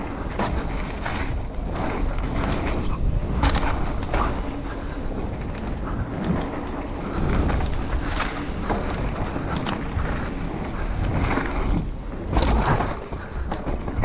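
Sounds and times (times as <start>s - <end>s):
bike rattling: 0.0s - 14.0s
wind rushing over microphone: 0.0s - 14.0s.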